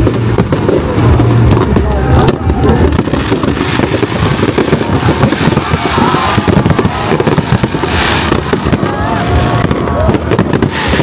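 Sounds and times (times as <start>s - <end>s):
fireworks booming and crackling: 0.0s - 11.0s.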